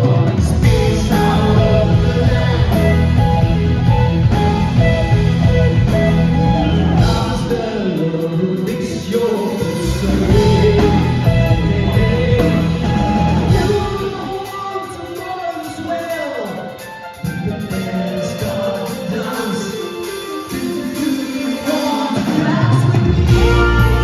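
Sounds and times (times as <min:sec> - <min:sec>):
progressive rock band playing: 0:00.0 - 0:24.0.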